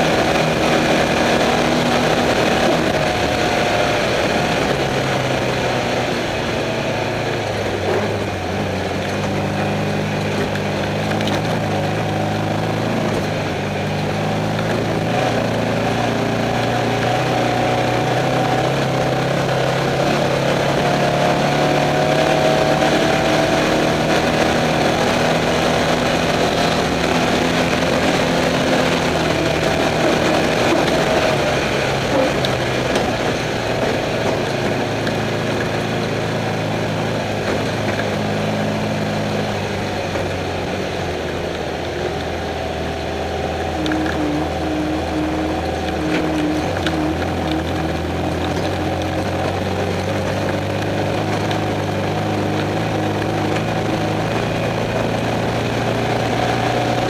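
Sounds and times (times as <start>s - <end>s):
race car engine running: 0.0s - 57.0s
road and wind noise: 0.0s - 57.0s.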